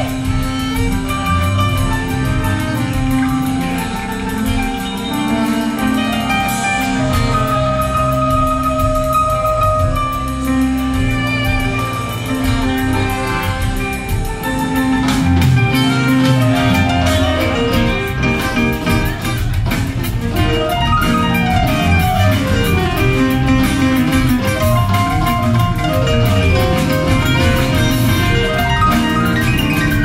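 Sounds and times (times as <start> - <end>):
live country-rock band: 0.0 - 30.0.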